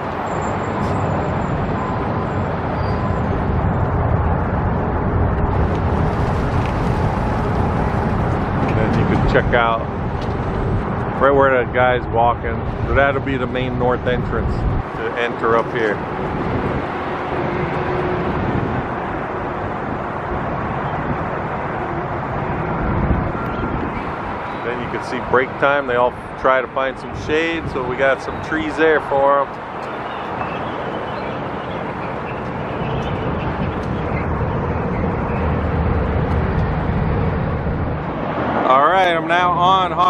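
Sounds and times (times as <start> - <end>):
road traffic hum: 0.0 - 40.0
wind buffeting microphone: 0.0 - 40.0.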